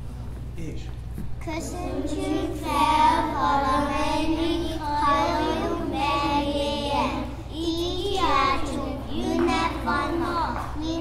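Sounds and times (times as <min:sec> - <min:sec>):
steady low hum: 0:00.0 - 0:11.0
children singing: 0:01.5 - 0:11.0.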